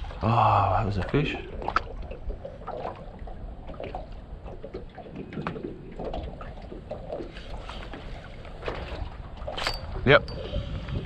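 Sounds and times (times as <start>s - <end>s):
low rumble of wind: 0.0s - 11.0s
waves slapping boat hull: 0.0s - 11.0s.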